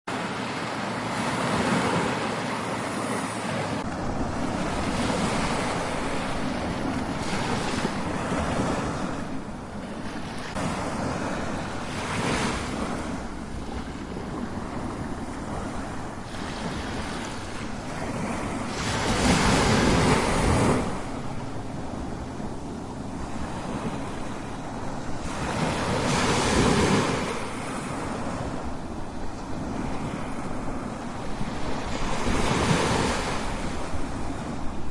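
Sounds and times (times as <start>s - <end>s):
ocean waves crashing: 0.1s - 34.9s.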